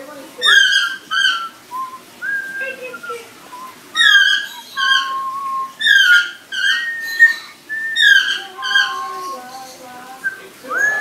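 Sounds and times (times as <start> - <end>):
parrot whistling: 0.4 - 9.6, 10.2 - 11.0.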